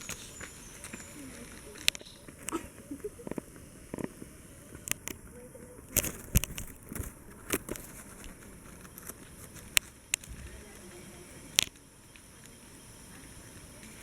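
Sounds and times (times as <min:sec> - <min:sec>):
sharp clicks and crackles: 0:00.0 - 0:12.6
faint steady hiss: 0:00.0 - 0:14.0.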